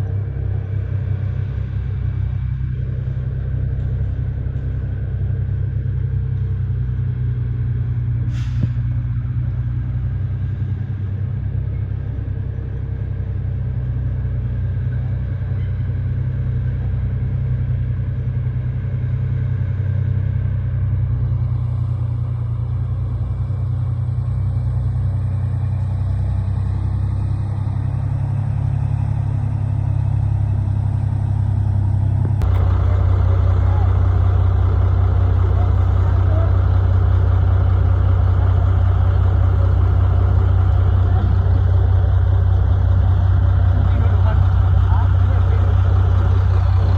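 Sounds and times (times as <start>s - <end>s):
heavy machinery engine running: 0.0s - 46.9s.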